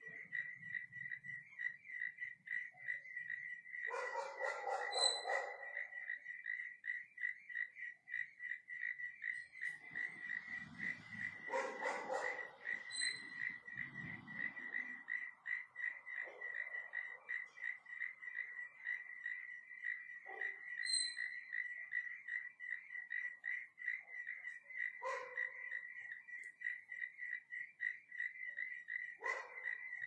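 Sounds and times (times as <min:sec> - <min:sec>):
rhythmic chirping of night animal: 0:00.0 - 0:30.0.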